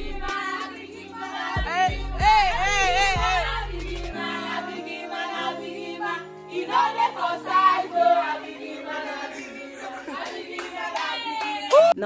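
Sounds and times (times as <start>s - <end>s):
group singing and chanting: 0.0s - 11.8s
music: 0.0s - 12.0s.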